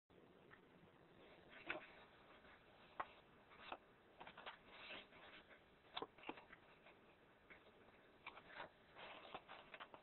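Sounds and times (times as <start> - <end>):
paper rustling and crackling: 1.5 - 10.0.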